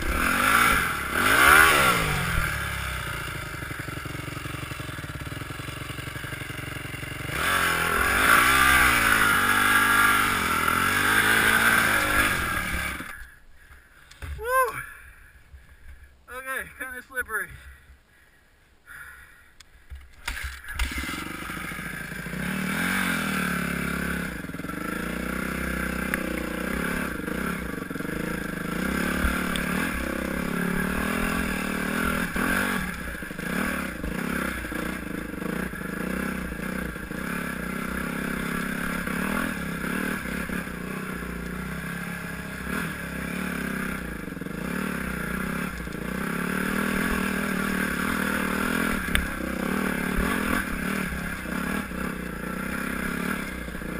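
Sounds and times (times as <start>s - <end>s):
dirt bike engine revving: 0.0s - 13.4s, 20.2s - 53.9s.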